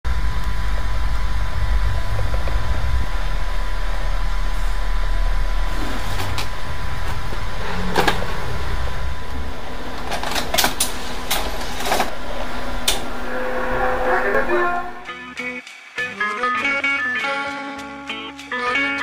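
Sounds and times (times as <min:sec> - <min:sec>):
steady hum: 0:00.1 - 0:15.4.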